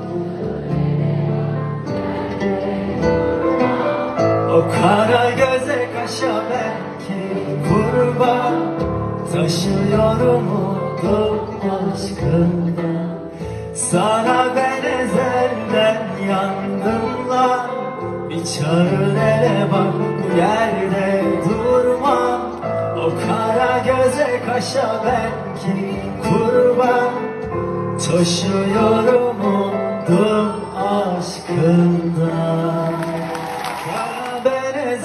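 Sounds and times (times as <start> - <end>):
band accompaniment: 0.0 - 35.0
man singing pop song live: 2.4 - 35.0.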